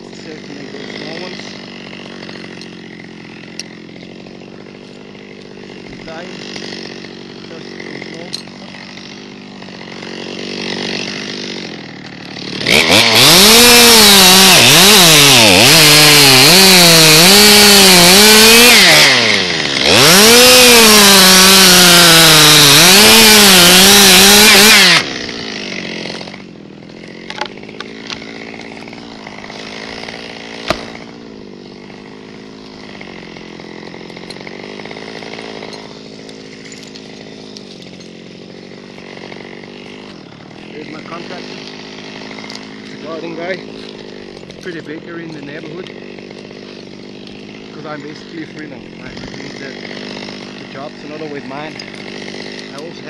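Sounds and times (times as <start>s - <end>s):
chainsaw cutting wood: 0.0s - 53.0s
chainsaw idling: 0.0s - 53.0s.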